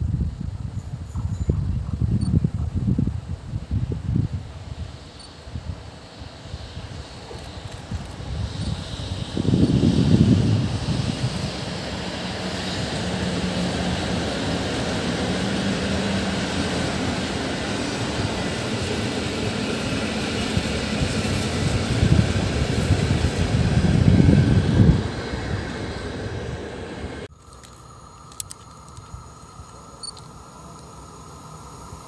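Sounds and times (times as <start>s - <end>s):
electric train rumbling past: 0.0s - 32.0s.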